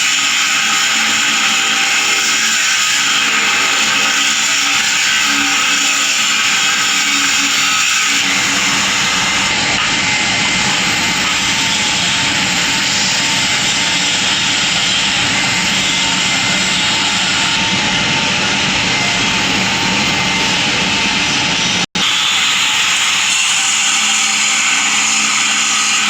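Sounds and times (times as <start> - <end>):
metalworking equipment hissing: 0.0 - 26.0.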